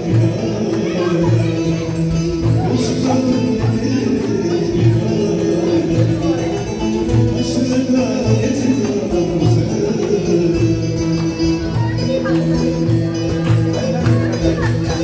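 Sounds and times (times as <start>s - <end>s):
folk dance music with steady beat: 0.0s - 15.0s.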